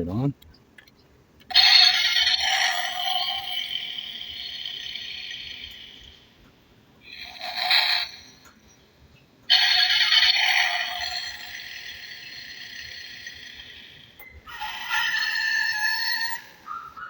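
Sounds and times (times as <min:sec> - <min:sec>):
electronic toy car running: 0:01.5 - 0:06.4, 0:07.0 - 0:08.8, 0:09.5 - 0:17.0.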